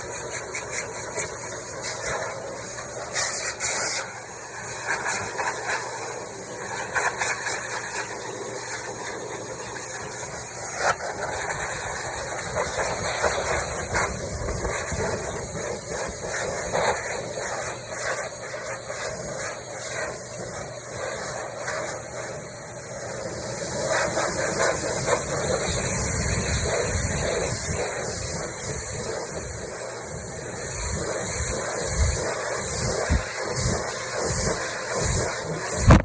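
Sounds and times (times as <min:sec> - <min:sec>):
pet hair dryer blowing: 0:00.0 - 0:36.0.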